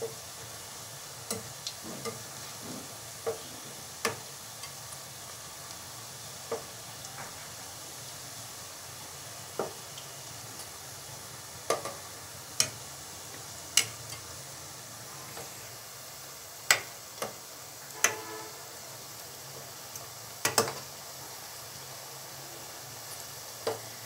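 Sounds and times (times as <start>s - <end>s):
dough sizzling in oil: 0.0s - 24.0s.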